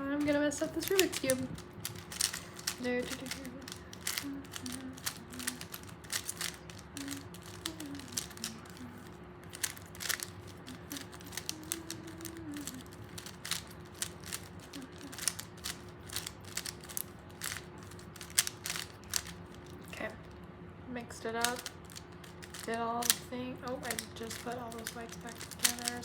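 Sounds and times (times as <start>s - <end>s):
puzzle cube twisting clicks: 0.2s - 19.9s, 21.4s - 26.0s.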